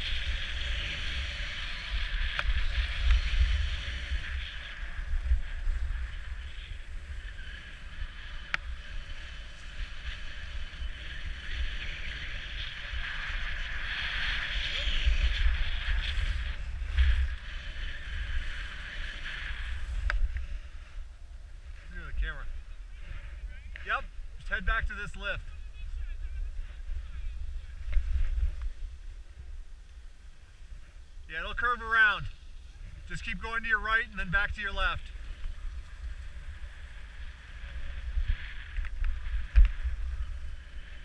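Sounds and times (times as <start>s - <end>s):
wind buffeting microphone: 0.0s - 31.3s, 34.2s - 41.0s
skis scraping over snow: 0.0s - 41.0s.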